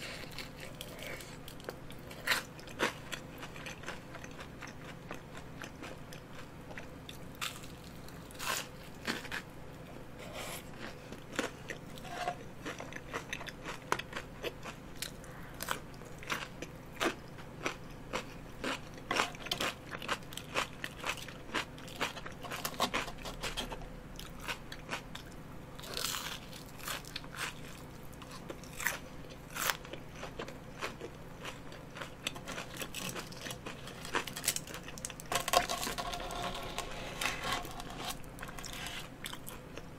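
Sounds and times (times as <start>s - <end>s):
chewing crunchy fried food: 0.0s - 39.9s.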